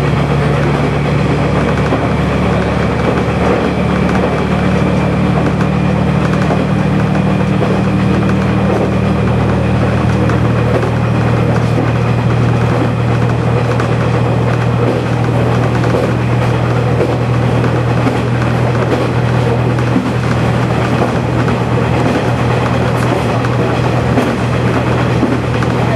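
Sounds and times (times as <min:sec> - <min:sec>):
diesel railcar engine running: 0:00.0 - 0:25.9
wheel and rail noise: 0:00.0 - 0:25.9.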